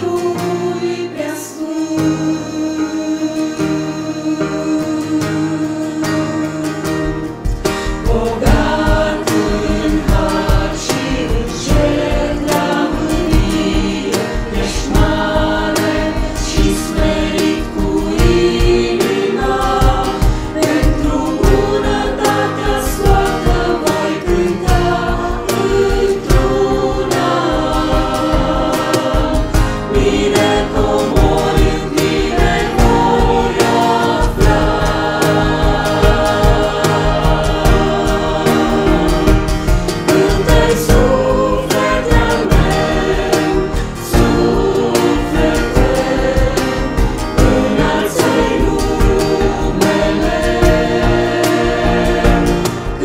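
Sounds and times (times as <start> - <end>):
mixed choir singing a hymn: 0.0 - 53.0.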